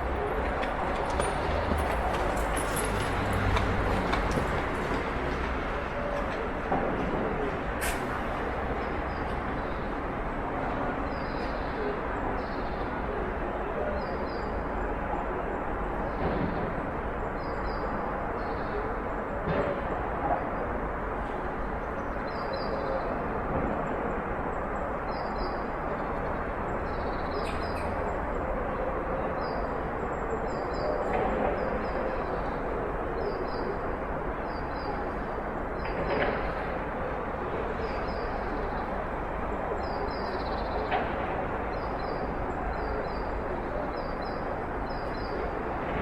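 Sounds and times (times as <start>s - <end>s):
distant city traffic hum: 0.0s - 46.0s.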